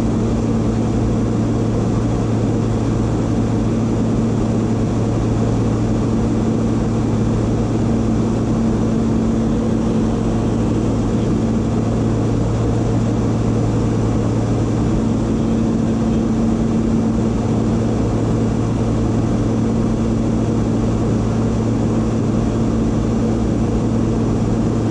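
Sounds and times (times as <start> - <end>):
jet cabin drone: 0.0 - 24.9.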